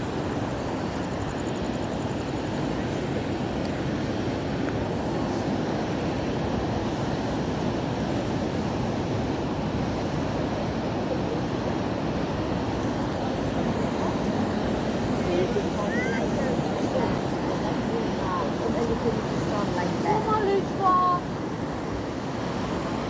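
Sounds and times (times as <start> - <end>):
ocean surf washing up beach: 0.0 - 23.0.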